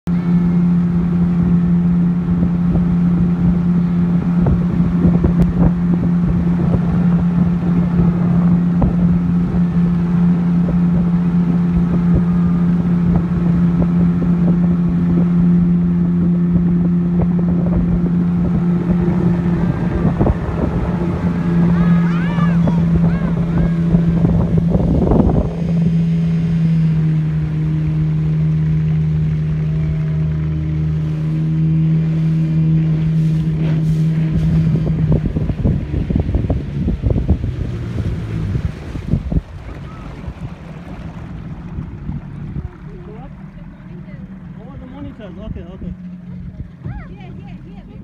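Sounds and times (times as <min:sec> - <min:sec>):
outboard motor running: 0:00.1 - 0:48.0
wind buffeting microphone: 0:00.1 - 0:48.0.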